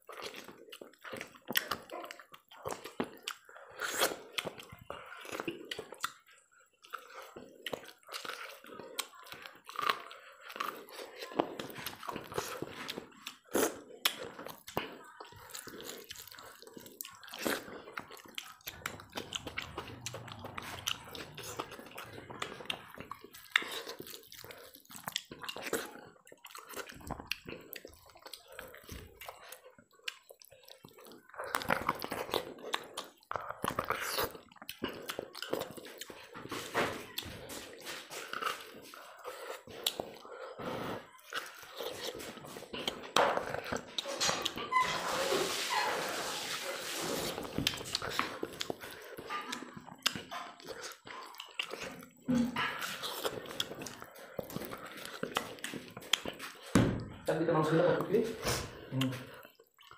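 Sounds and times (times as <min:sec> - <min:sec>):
wet chewing and biting: 0:00.0 - 0:59.9.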